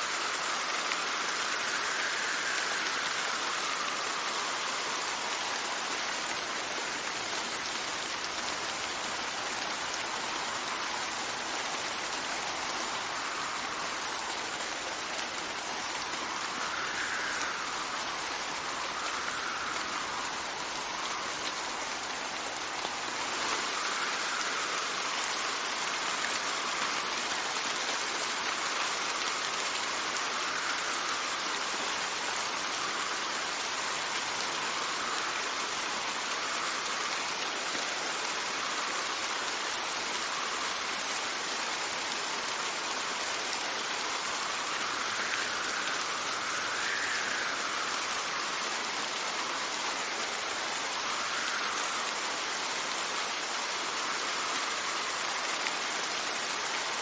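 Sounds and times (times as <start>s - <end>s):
steady rain falling: 0.0s - 57.0s
wind: 0.0s - 57.0s.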